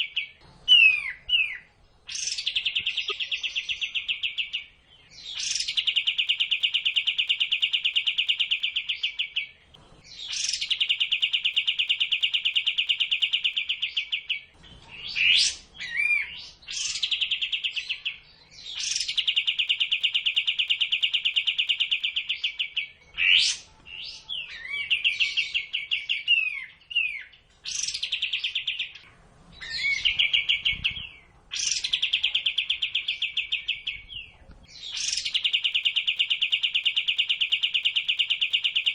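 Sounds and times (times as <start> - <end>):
sweeping whistled bird notes: 0.0 - 38.9.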